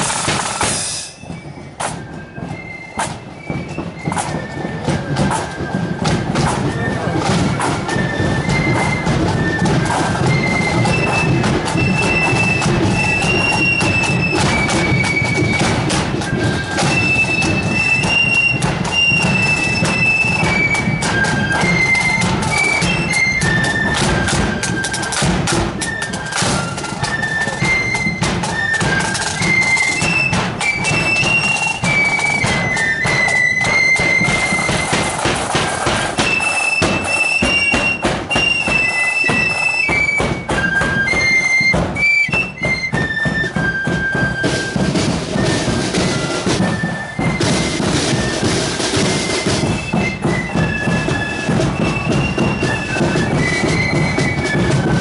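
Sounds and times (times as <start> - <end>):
flute melody: 0.0 - 55.0
snare drum beat: 0.0 - 55.0.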